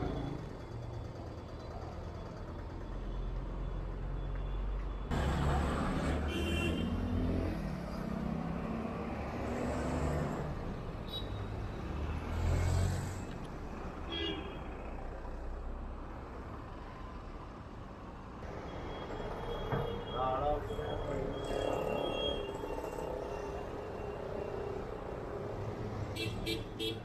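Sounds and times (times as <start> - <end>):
traffic hum: 0.0 - 27.0
vehicles passing: 0.0 - 27.0.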